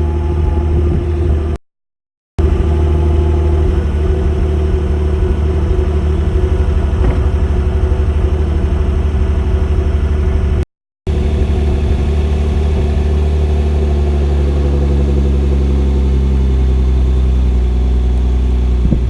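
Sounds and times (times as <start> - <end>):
car exhaust idling: 2.4 - 19.0.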